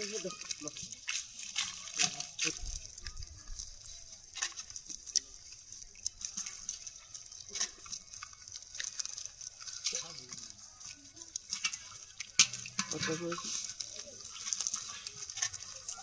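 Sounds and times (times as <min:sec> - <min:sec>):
water dripping and splashing: 0:00.0 - 0:16.0.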